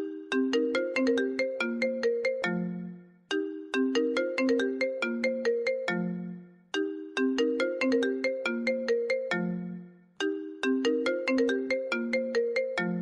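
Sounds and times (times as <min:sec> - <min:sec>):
phone ringtone melody: 0:00.0 - 0:13.0.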